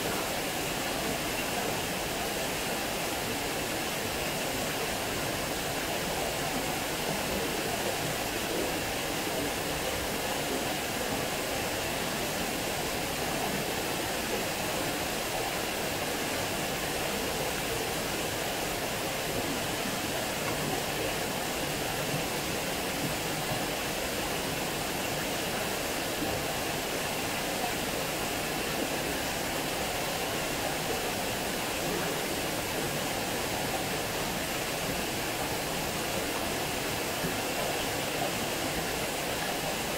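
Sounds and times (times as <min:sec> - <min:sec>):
water rushing over a weir: 0:00.0 - 0:39.9.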